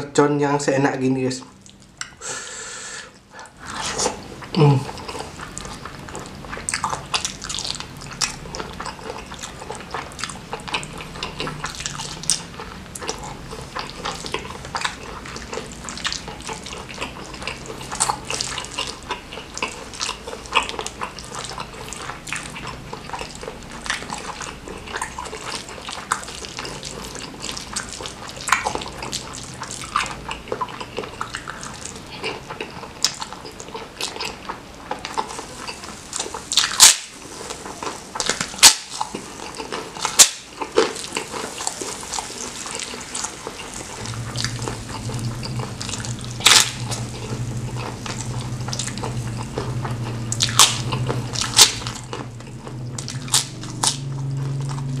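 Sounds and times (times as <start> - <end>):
wet chewing and lip smacking: 1.4 - 2.2, 3.2 - 55.0.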